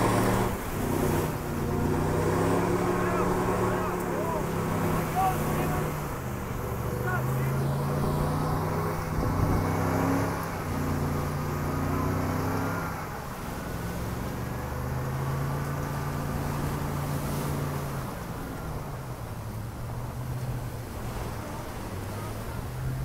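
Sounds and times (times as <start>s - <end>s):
pickup engine revving: 0.0s - 23.0s
wheels spinning in sand: 0.0s - 23.0s.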